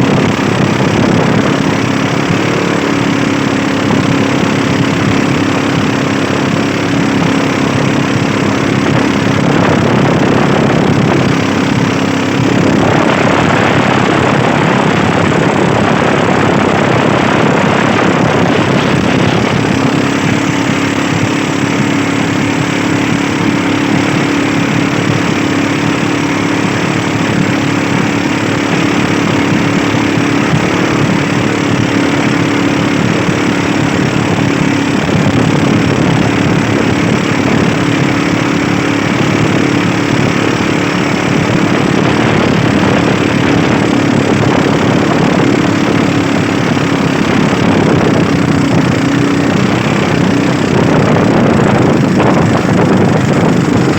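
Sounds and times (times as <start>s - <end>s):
boat engine hum: 0.0s - 53.9s
loud rushing noise: 0.0s - 53.9s.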